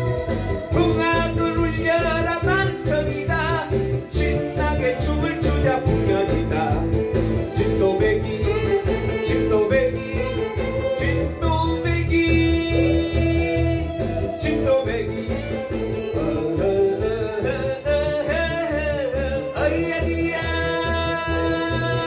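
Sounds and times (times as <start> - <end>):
backing track with beat and bass: 0.0 - 22.0
man singing: 0.6 - 22.0.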